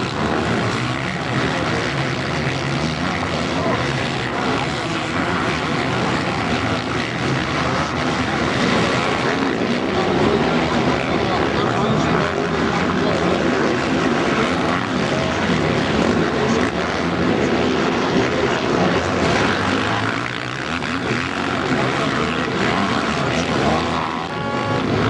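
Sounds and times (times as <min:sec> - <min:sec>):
motocross engines revving: 0:00.0 - 0:25.0.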